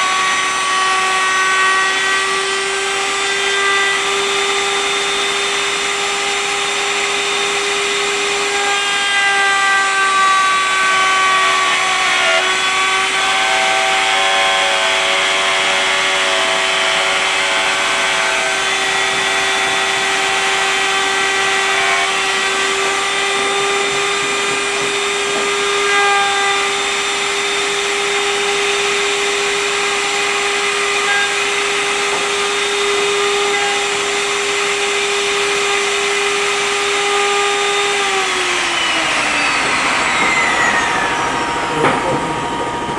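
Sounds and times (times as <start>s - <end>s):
router whining cutting wood: 0.0s - 42.9s.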